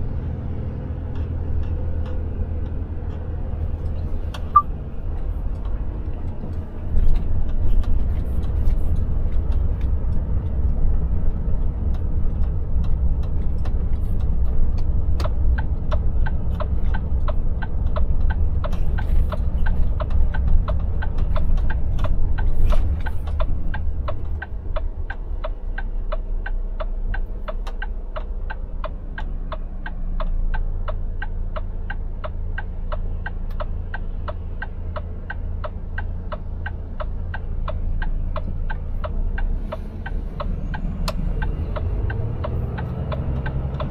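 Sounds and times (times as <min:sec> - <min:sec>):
truck engine and road rumble: 0:00.0 - 0:43.9
turn signal ticking: 0:01.0 - 0:43.9.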